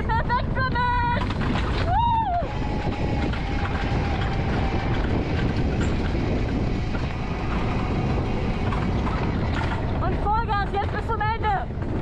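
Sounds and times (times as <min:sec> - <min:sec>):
coaster wheels rumbling on track: 0:00.0 - 0:12.0.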